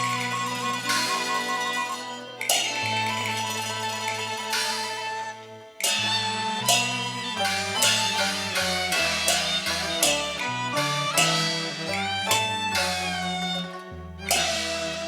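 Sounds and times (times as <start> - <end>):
bowed string melody: 0.0 - 15.0.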